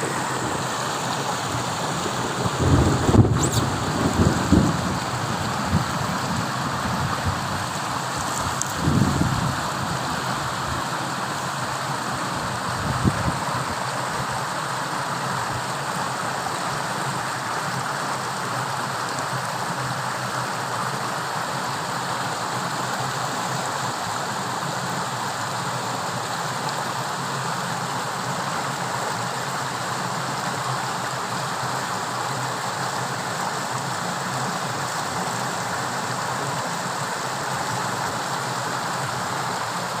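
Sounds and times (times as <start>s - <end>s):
fast-running water rushing: 0.0s - 40.0s.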